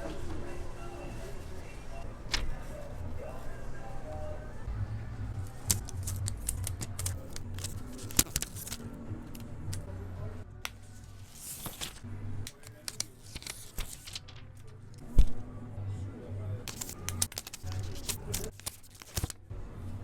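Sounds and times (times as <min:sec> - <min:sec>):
low background music: 0:00.0 - 0:20.0.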